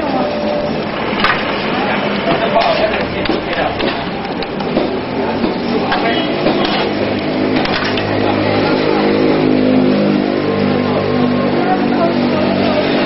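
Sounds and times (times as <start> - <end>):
steady engine drone: 0.0 - 13.0.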